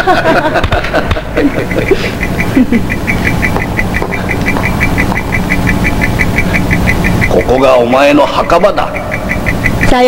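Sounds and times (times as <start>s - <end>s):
low electronic hum: 0.0s - 10.0s
rapid electronic beeping: 1.3s - 10.0s.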